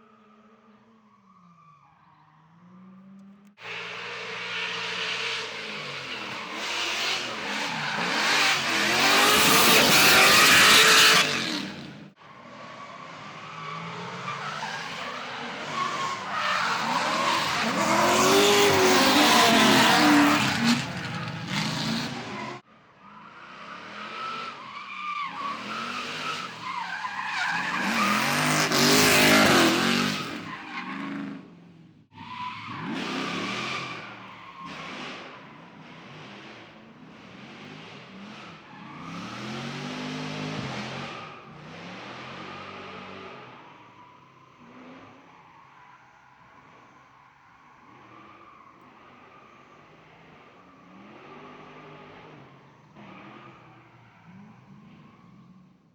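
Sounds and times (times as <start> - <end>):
car engines revving: 0.0 - 55.9
tyres squealing and skidding: 0.0 - 55.9.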